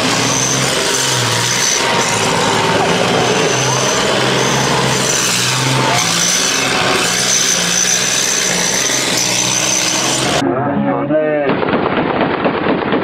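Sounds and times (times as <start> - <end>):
thin high whine: 0.0 - 10.4
tracked vehicle engines droning: 0.0 - 10.7.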